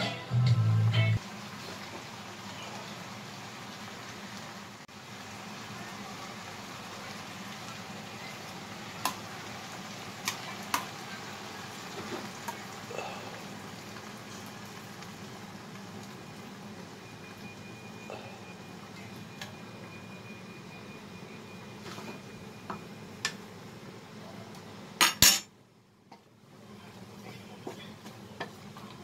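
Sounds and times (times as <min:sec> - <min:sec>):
vegetables sizzling in a frying pan: 0:01.2 - 0:25.4.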